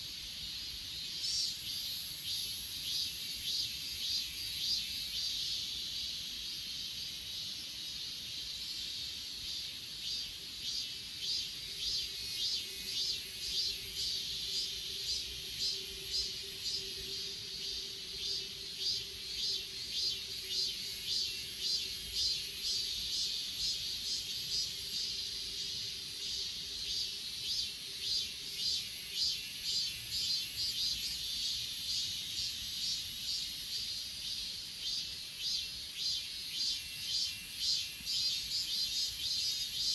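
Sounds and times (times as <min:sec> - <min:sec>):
crickets trilling: 0:00.0 - 0:39.9
pulsing insect trill: 0:00.4 - 0:39.9.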